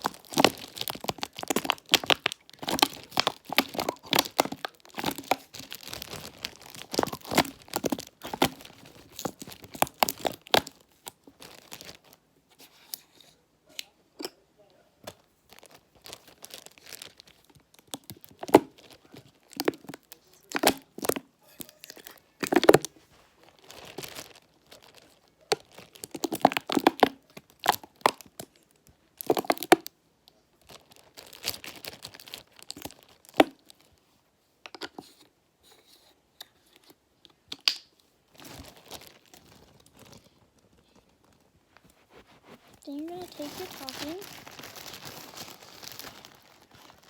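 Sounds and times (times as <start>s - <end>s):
plastic bag crinkling: 0.0s - 12.2s, 15.1s - 29.8s, 30.6s - 34.0s, 38.3s - 47.0s.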